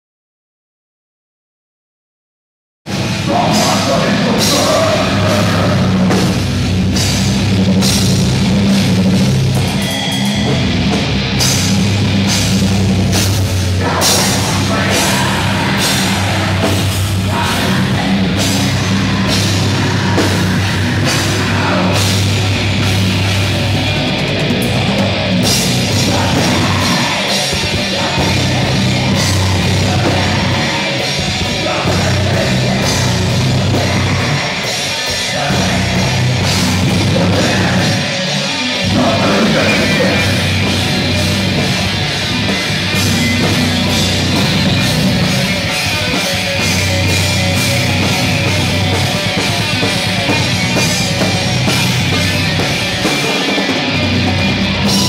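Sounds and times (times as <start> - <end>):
heavy metal band playing live: 2.9 - 55.0.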